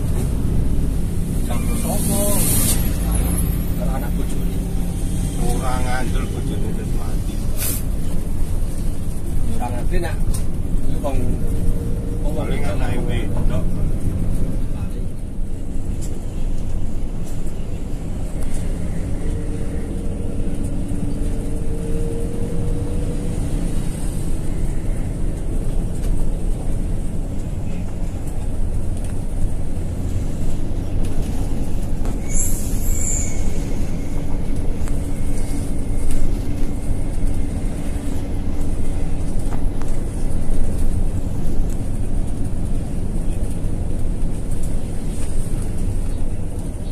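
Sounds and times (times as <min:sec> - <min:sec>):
bus engine drone: 0:00.0 - 0:46.9
road rumble: 0:00.0 - 0:46.9.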